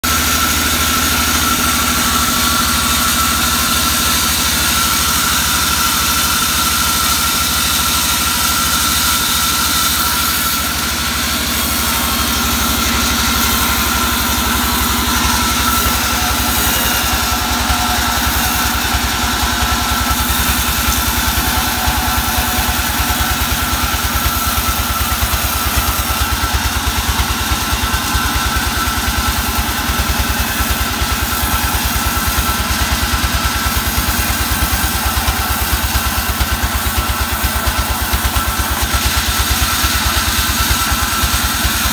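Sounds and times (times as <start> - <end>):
saw high whine: 0.0 - 41.9
sawmill engine throbbing: 0.0 - 41.9.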